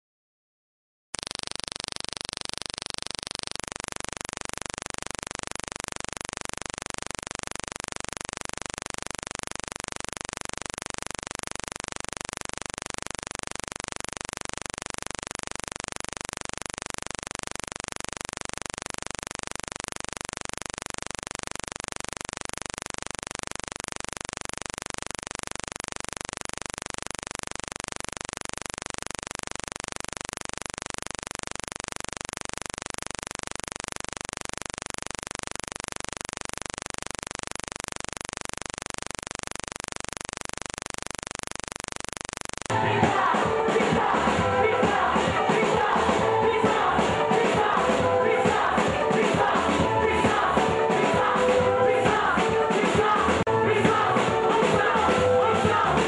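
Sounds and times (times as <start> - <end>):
static hiss: 1.2 - 56.0.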